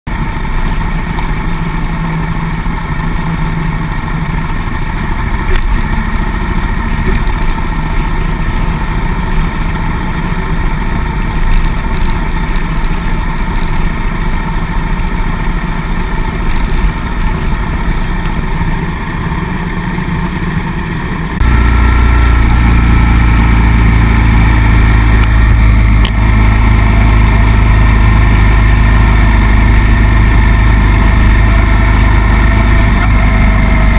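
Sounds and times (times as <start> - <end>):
motorcycle engine rumble: 0.1 - 33.9
road noise: 0.1 - 33.9.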